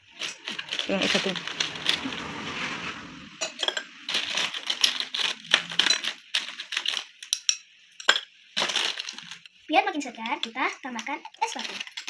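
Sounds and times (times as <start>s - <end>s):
ice cubes clinking and clattering: 0.0s - 2.2s, 3.4s - 12.0s.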